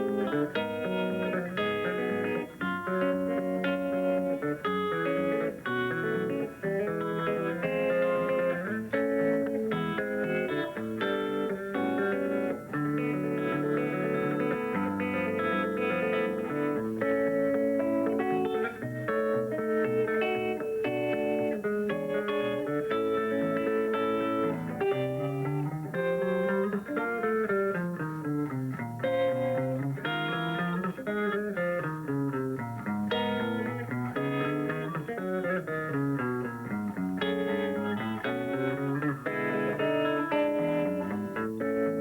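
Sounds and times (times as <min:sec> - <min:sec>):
thumb-picked guitar: 0:00.0 - 0:42.0.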